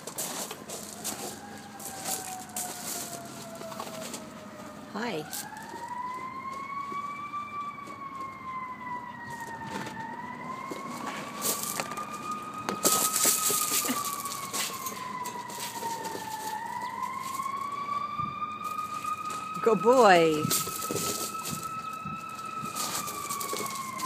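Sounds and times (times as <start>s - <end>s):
crunching on gravel: 0.0s - 4.3s, 5.2s - 7.0s, 9.3s - 17.9s, 18.6s - 24.0s
siren wailing: 0.0s - 24.0s.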